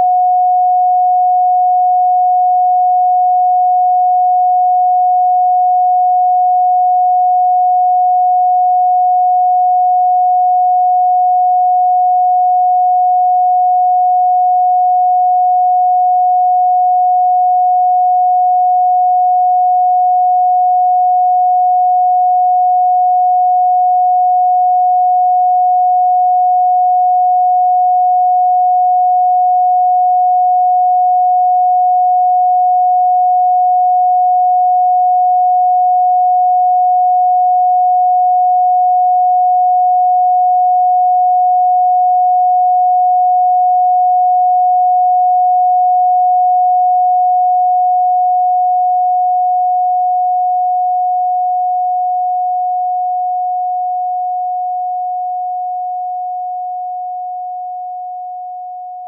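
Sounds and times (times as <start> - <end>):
steady sine tone: 0.0 - 59.0.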